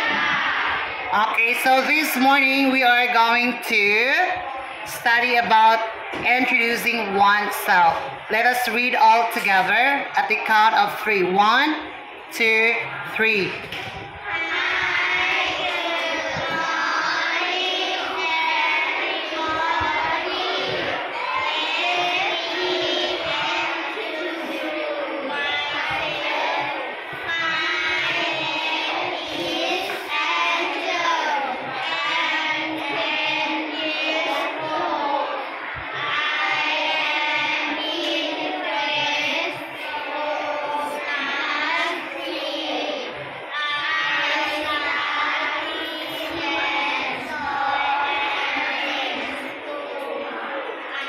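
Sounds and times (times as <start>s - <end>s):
children reading aloud in unison: 0.0s - 51.0s.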